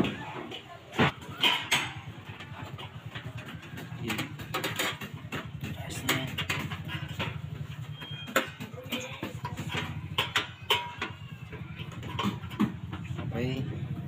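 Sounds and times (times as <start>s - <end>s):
metallic knocks and clanks: 0.0s - 14.0s.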